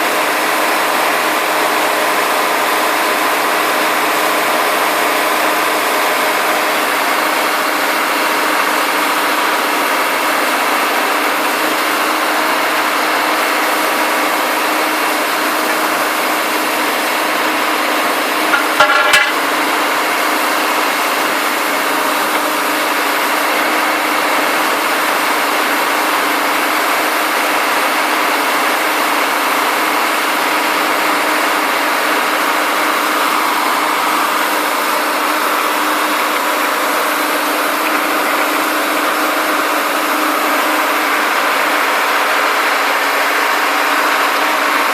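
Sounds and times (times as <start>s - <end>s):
drill rig diesel engine running: 0.0s - 44.9s.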